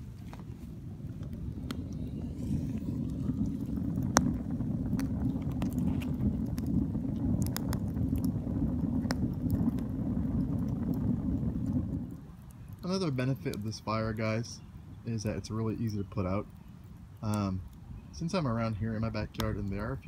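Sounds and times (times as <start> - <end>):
burning wood crackles: 0.0 - 20.0
wood fire rumble: 0.0 - 20.0.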